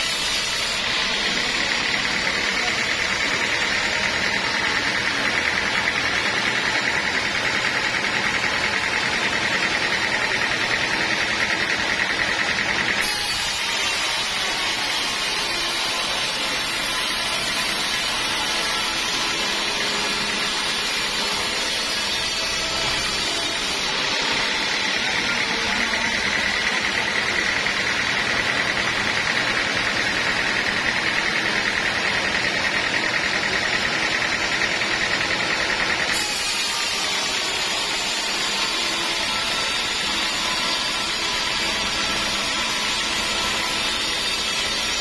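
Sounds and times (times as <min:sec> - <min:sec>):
sawmill saw whining: 0:00.0 - 0:45.0.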